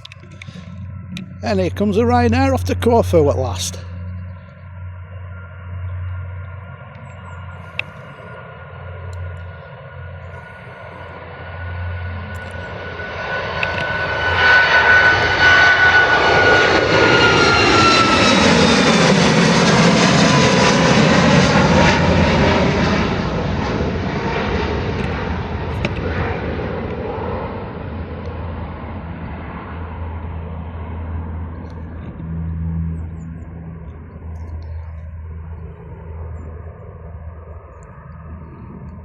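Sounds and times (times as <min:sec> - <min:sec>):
jet engines at takeoff power: 0:00.0 - 0:39.0.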